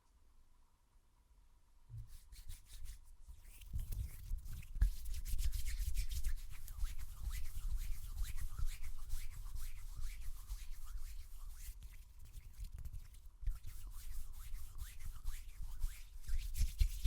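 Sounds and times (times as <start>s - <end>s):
hands rubbing together: 2.0s - 17.0s.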